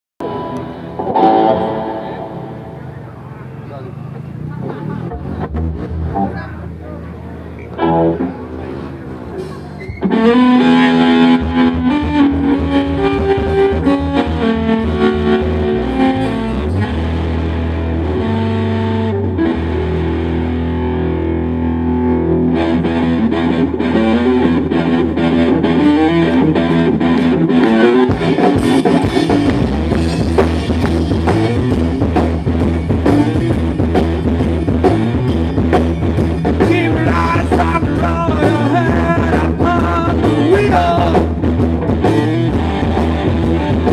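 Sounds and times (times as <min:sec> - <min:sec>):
bass guitar: 0:00.2 - 0:43.9
drums: 0:00.2 - 0:43.9
electric guitar: 0:00.2 - 0:43.9.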